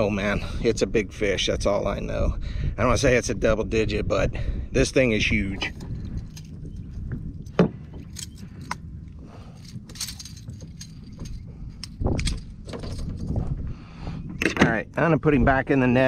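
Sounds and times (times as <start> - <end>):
low rumble of handling: 0.0 - 16.0.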